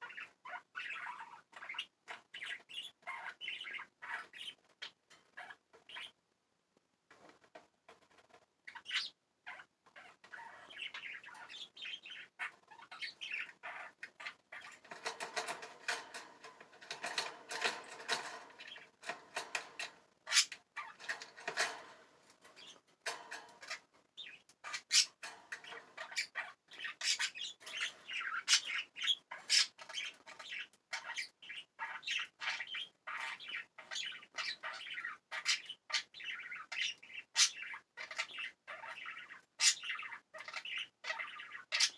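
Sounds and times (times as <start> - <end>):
budgies chirping and warbling: 0.0 - 6.2, 8.7 - 41.9.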